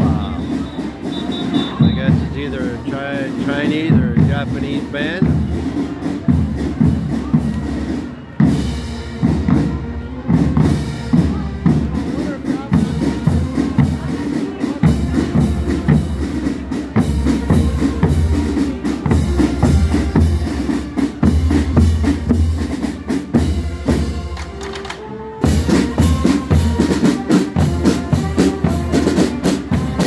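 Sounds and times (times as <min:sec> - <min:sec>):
marching drum line: 0:00.0 - 0:30.0.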